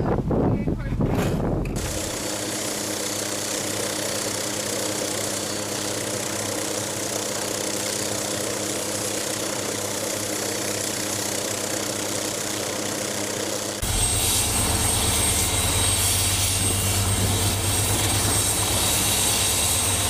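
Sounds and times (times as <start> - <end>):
engine humming steadily: 0.8 - 20.0.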